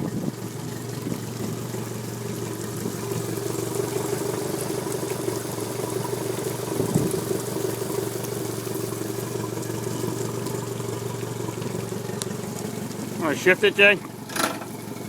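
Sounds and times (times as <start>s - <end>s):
outboard motors idling: 0.0s - 15.0s.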